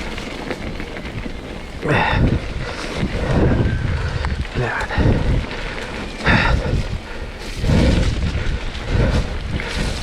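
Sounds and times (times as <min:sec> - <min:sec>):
mountain bike on rough trail: 0:00.0 - 0:10.0
wind buffeting microphone: 0:00.0 - 0:10.0.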